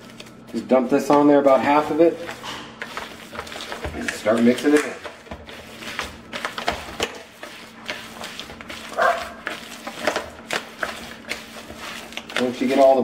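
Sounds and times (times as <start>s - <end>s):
hands squelching wet mixture: 0.0s - 13.0s.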